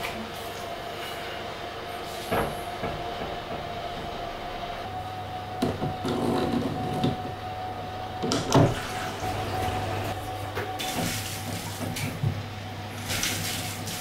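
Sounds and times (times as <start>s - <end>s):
steady hum with thin tone: 0.0s - 14.0s.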